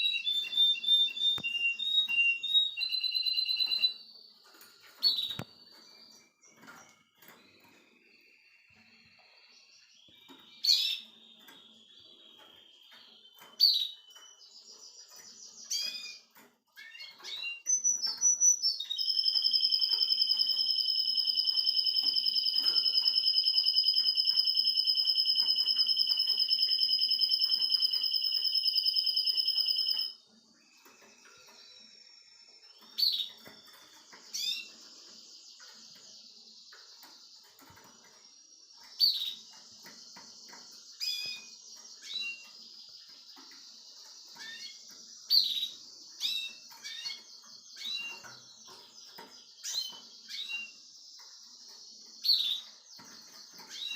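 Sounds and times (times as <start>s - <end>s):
canary singing and trilling: 0.0s - 53.9s.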